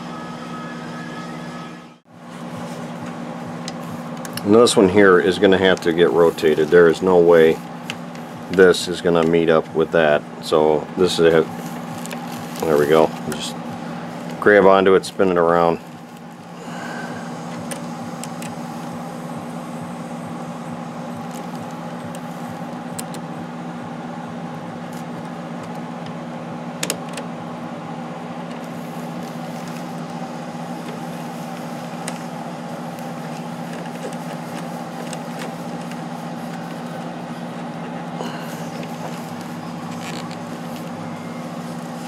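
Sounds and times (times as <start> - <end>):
machine hum: 0.0 - 42.0.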